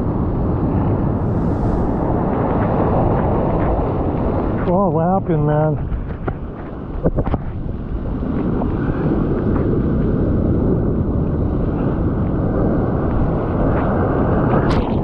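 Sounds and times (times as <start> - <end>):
breaking surf and whitewater: 0.0 - 15.0
wind noise on microphone: 0.0 - 15.0.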